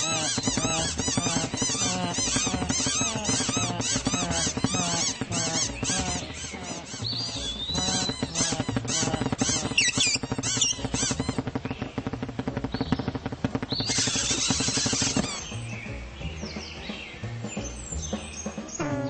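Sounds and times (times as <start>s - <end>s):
low buzzing rhythm: 0.0s - 18.0s
small birds chirping: 0.0s - 19.0s.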